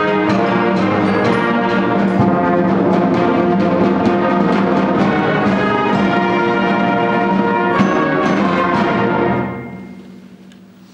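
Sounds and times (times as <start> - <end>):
symphonic band playing: 0.0 - 10.4.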